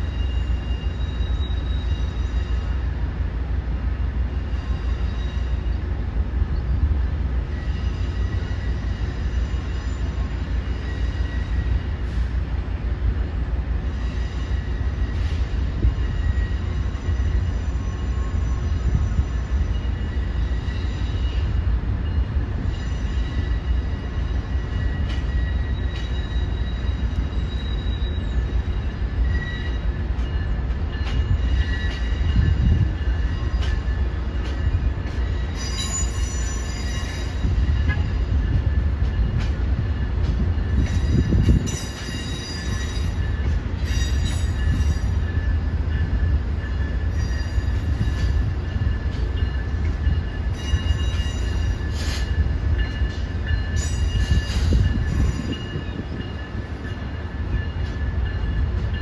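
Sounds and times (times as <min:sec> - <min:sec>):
train rumbling past: 0:00.0 - 0:59.0
train wheels squealing: 0:00.0 - 0:59.0.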